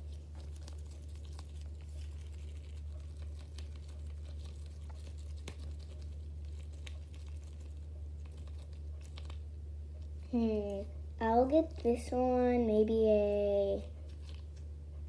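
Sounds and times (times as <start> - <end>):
rubbery balloon crinkling: 0.0 - 12.1, 13.9 - 14.7
low hum: 0.0 - 15.0.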